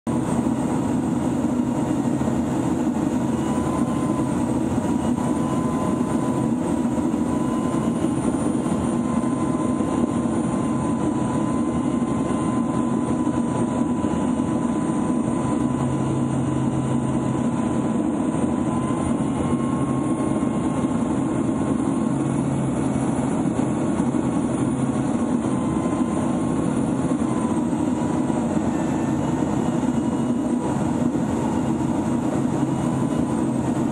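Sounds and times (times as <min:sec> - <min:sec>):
high turbine whine: 0:00.1 - 0:33.9
turboprop engine drone: 0:00.1 - 0:33.9.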